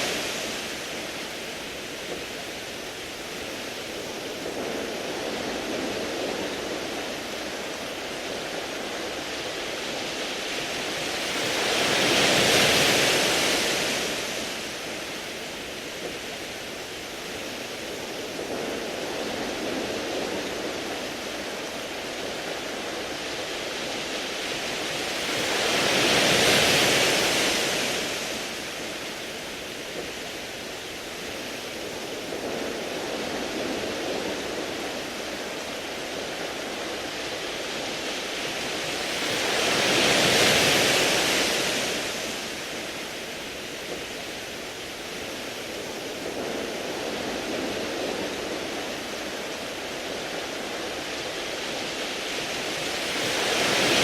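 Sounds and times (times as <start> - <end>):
waves washing onto pebble beach: 0.0 - 54.0.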